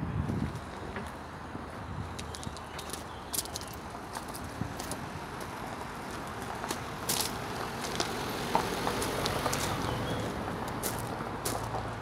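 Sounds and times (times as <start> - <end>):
footsteps on gravel: 0.2 - 12.0.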